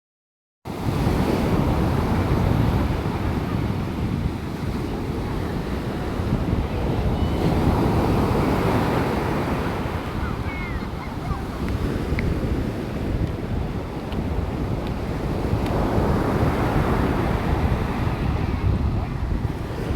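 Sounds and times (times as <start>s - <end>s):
sea waves: 0.7s - 19.9s
wind rumbling on microphone: 0.7s - 19.9s.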